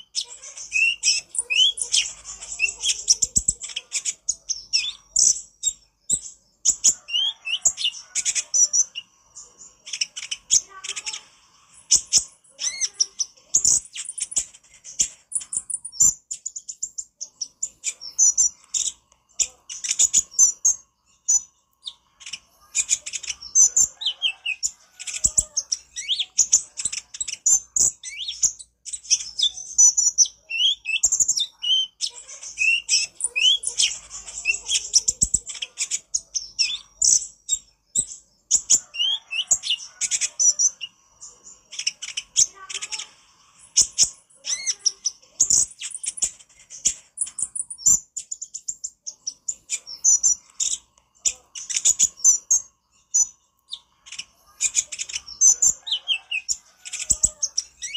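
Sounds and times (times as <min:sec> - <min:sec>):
sunbird chirping and trilling: 0:00.0 - 0:57.9.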